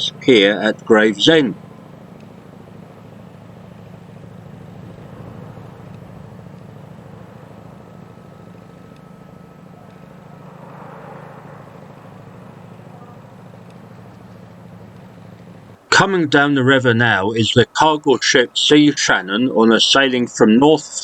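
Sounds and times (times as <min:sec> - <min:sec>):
boat engine drone: 0:00.0 - 0:21.0
faint thin whine: 0:00.0 - 0:21.0.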